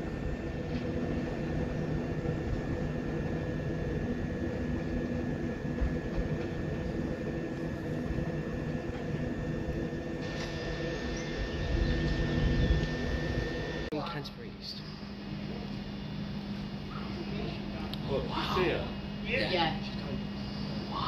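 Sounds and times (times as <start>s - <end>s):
locomotive engine drone: 0.0s - 21.0s
thin high whine: 0.0s - 21.0s.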